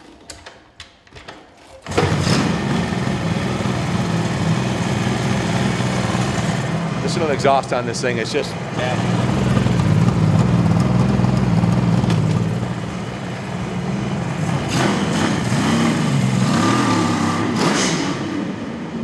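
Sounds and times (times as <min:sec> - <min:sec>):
two-stroke motorcycle engine revving: 0:01.9 - 0:19.0.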